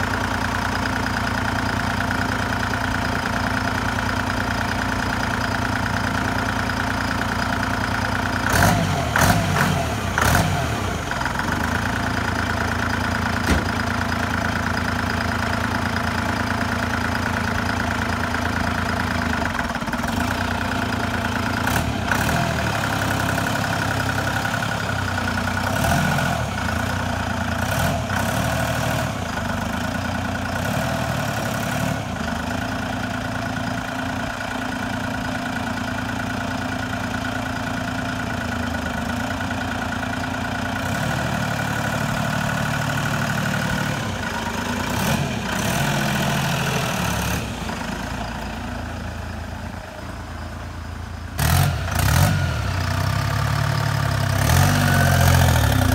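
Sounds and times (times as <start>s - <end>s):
car engine running: 0.0s - 30.9s, 32.0s - 55.9s.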